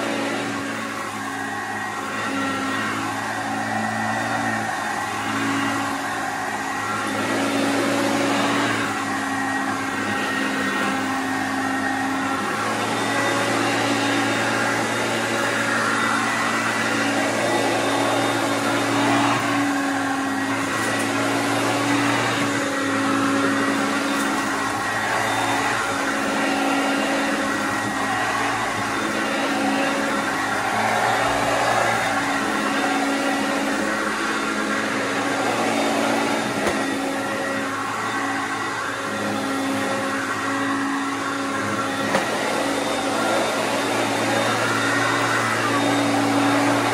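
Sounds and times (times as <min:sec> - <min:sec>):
upright vacuum cleaner running: 0:00.0 - 0:46.9.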